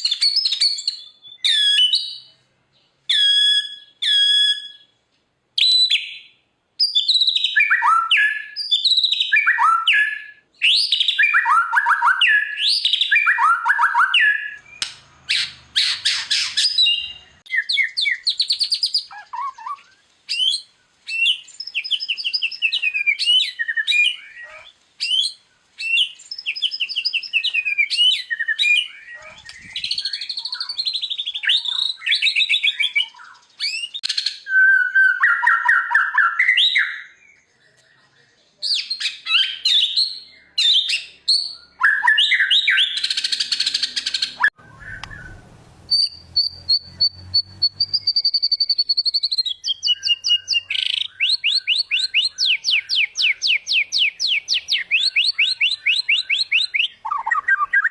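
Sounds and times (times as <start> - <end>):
bird singing whistles and trills: 0.0 - 2.3, 3.1 - 5.0, 5.6 - 57.9.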